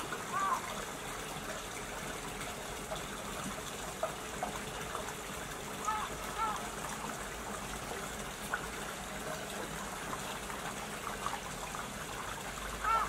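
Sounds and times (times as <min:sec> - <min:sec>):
running water trickling: 0:00.0 - 0:13.0.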